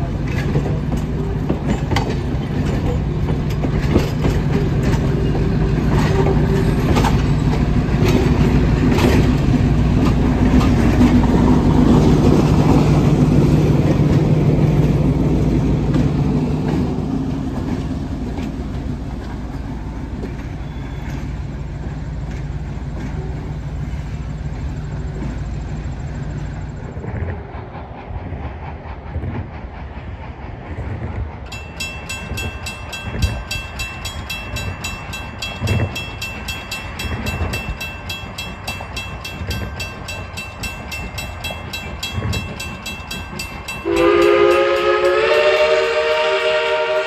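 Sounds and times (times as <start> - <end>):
train wheels clicking over rail joints: 0.0 - 46.6
diesel locomotive engine running: 0.0 - 47.0.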